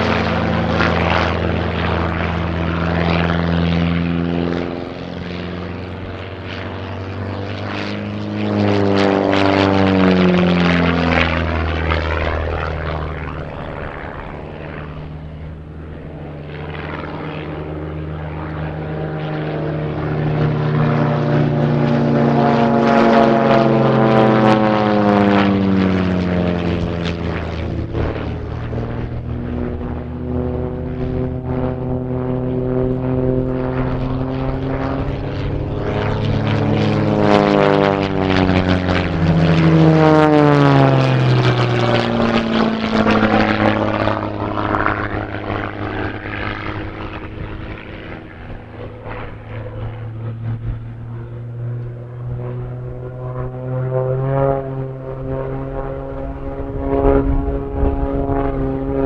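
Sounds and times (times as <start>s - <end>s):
propeller planes flying overhead: 0.0s - 59.0s.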